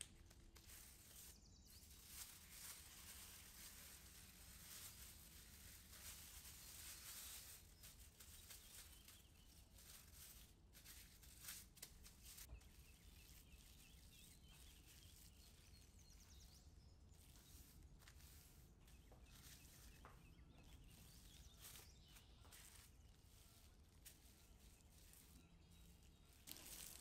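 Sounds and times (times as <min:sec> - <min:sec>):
plastic wrap crinkling: 0:00.0 - 0:16.5, 0:17.2 - 0:27.0
soft rustles: 0:00.0 - 0:27.0.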